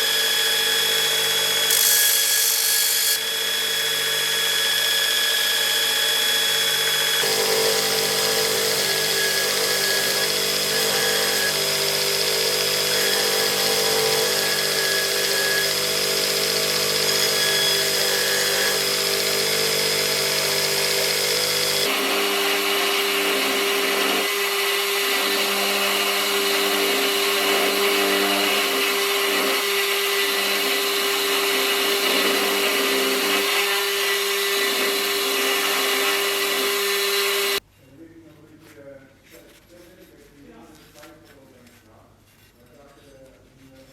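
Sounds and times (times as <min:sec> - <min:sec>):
electric power tool running: 0:00.0 - 0:37.6.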